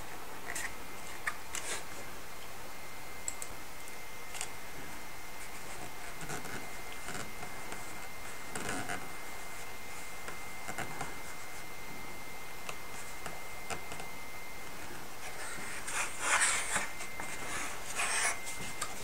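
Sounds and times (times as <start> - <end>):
thin high whine: 0.0 - 19.0.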